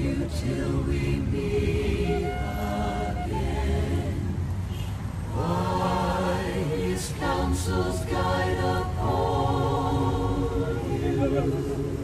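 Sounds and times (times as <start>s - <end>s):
choir singing held notes: 0.0s - 12.0s.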